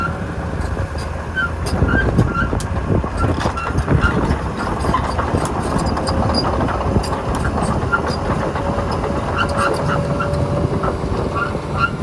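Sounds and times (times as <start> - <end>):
excavator diesel engine droning: 0.0 - 12.0
metal clanks and knocks: 1.0 - 11.5.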